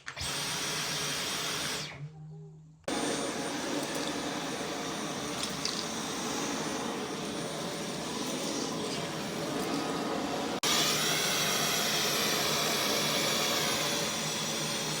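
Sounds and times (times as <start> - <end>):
stick vacuum whining: 0.0 - 2.0, 2.9 - 15.0.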